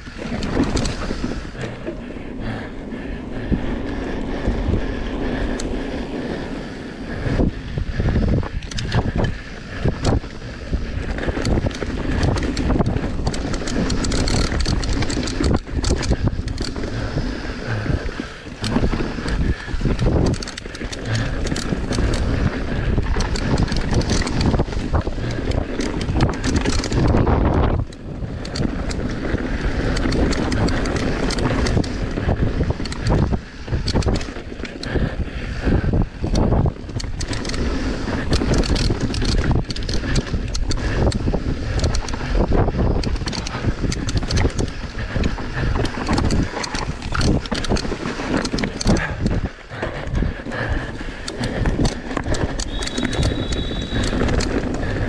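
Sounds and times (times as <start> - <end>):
bike frame rattling: 0.0 - 55.0
bike tyre noise: 0.0 - 55.0
wind buffeting microphone: 0.0 - 55.0.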